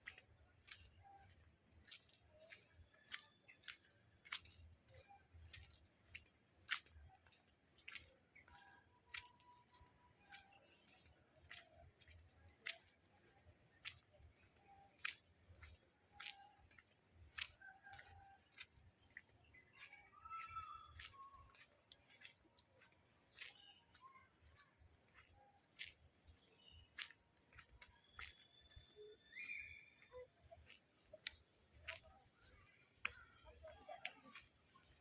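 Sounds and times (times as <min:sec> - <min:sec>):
faint bird chirps and calls: 0:00.0 - 0:35.0.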